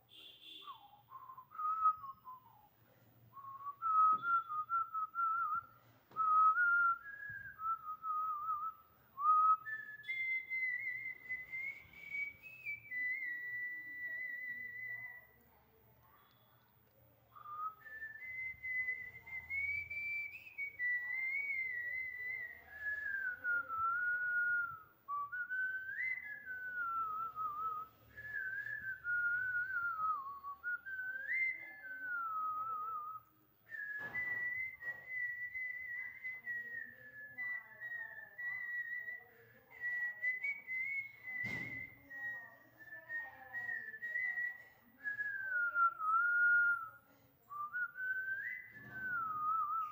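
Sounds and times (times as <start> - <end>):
woman whistling a tune: 0.1 - 15.4, 17.3 - 49.9.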